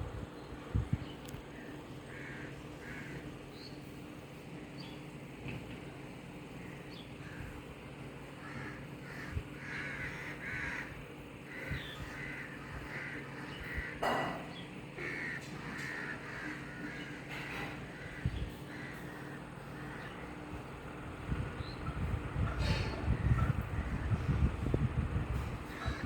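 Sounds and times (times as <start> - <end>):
birds calling: 0.1 - 26.0.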